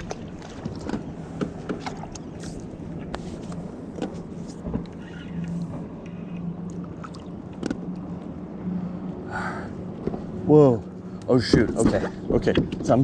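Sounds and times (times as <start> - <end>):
boat motor humming: 0.0 - 13.0
water: 0.0 - 13.0.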